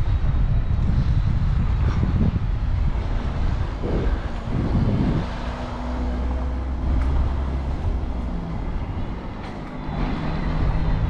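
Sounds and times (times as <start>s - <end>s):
car engine humming: 0.0s - 11.0s
wind rumbling on microphone: 0.0s - 11.0s.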